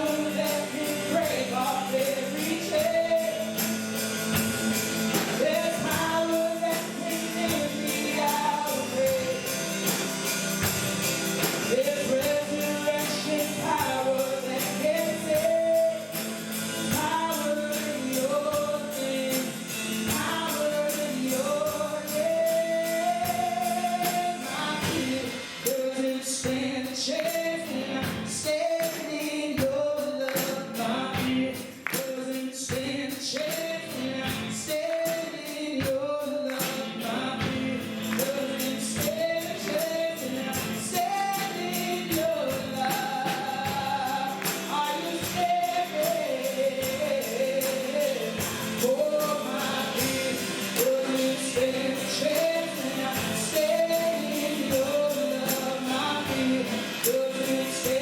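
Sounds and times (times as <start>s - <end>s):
band playing: 0.0s - 25.9s, 36.9s - 58.0s
singers with gospel-style melody: 0.0s - 58.0s
steady percussion beat: 0.0s - 58.0s.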